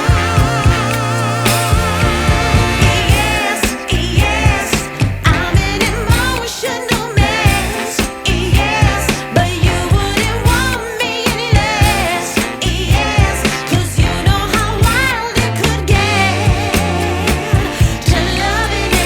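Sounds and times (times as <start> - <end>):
song with singing over a beat: 0.0 - 19.0.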